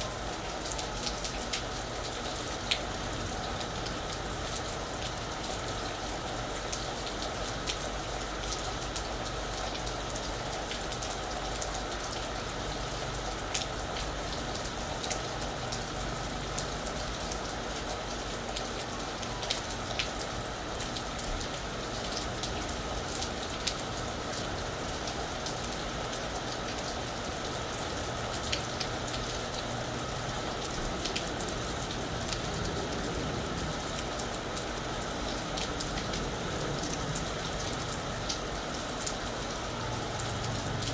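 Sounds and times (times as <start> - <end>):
rain on a roof: 0.0 - 40.9.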